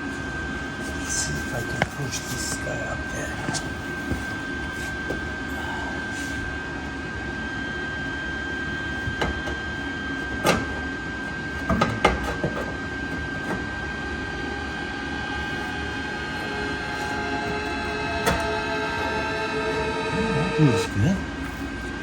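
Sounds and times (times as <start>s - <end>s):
thin high whine: 0.0s - 10.8s, 13.9s - 22.0s
steady low hum: 0.0s - 22.0s.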